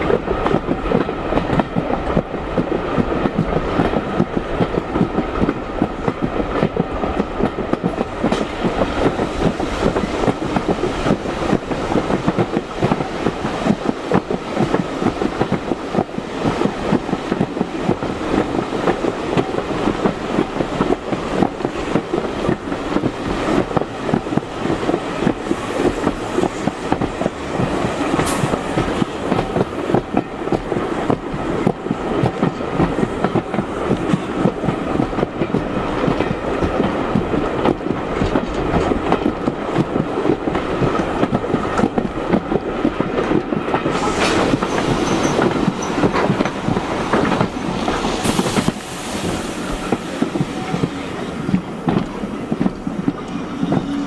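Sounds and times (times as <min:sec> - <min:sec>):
railway carriage rumble and rattle: 0:00.0 - 0:54.0
wheels clicking over rail joints: 0:00.2 - 0:54.0.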